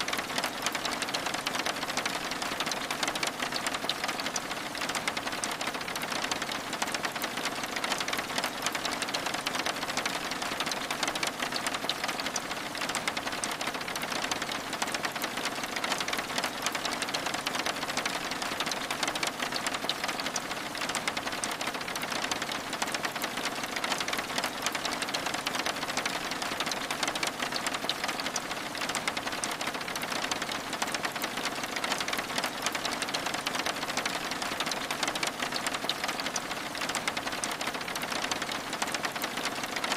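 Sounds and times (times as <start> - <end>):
rain on window: 0.0 - 39.9.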